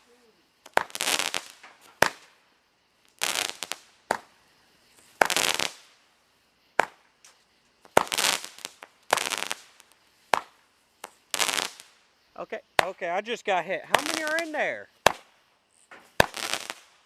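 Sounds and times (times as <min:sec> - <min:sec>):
firework pops: 0:00.0 - 0:02.4, 0:03.1 - 0:06.0, 0:06.7 - 0:12.0, 0:12.8 - 0:13.0, 0:13.9 - 0:17.0
crackling hiss: 0:00.0 - 0:17.0.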